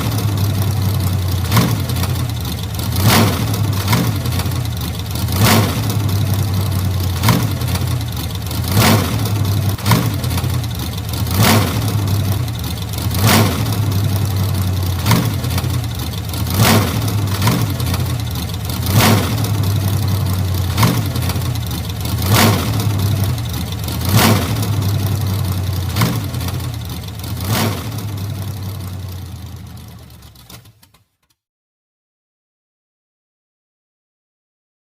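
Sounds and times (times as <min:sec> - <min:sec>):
old car engine idling: 0:00.0 - 0:30.9.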